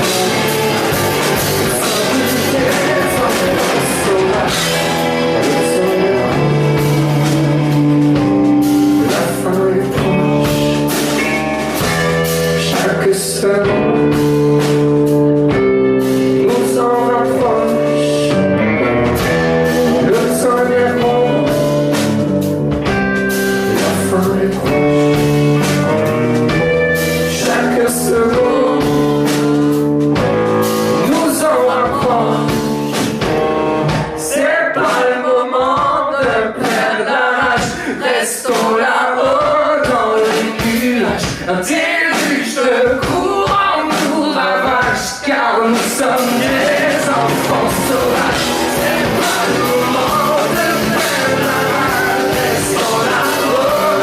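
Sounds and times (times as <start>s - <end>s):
person singing: 0.0s - 11.4s, 12.4s - 15.2s, 16.0s - 22.1s, 23.5s - 26.1s, 27.2s - 29.7s, 30.9s - 33.2s, 33.9s - 54.0s
live band playing: 0.0s - 54.0s.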